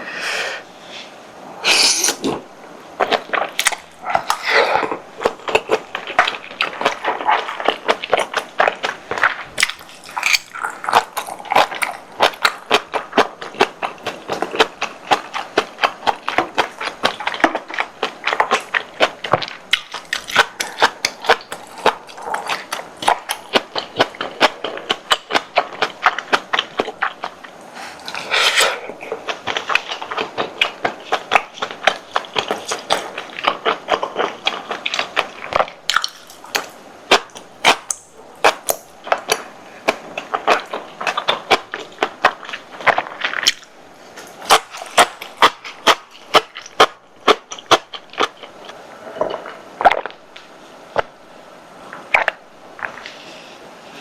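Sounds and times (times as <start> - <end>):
slurping or crunching: 1.6 - 50.2
wet chewing and mouth smacks: 3.0 - 51.1, 51.9 - 53.2.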